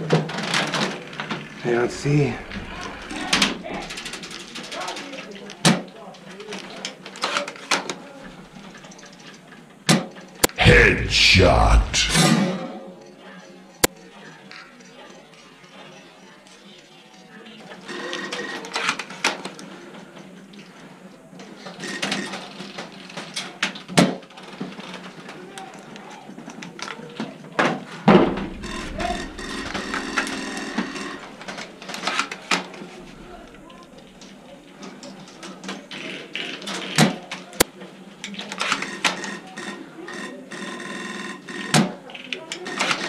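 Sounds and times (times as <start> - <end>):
low noisy background: 0.0 - 43.0.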